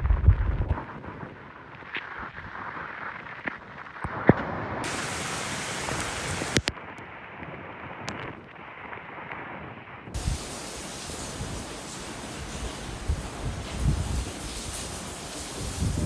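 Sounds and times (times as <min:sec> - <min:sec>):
wind and rain rushing: 0:00.0 - 0:16.0.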